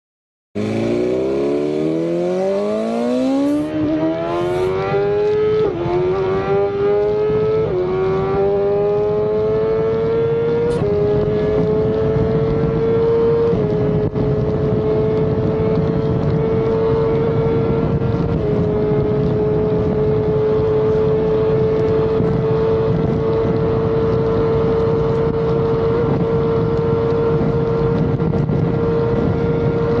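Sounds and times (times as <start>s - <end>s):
motorcycle engine revving up: 0.6s - 28.0s.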